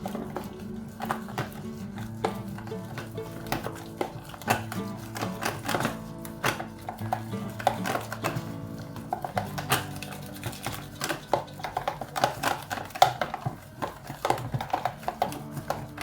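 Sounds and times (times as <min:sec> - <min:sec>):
soft background music: 0:00.0 - 0:16.0
utensils clinking against dishes: 0:00.0 - 0:16.0.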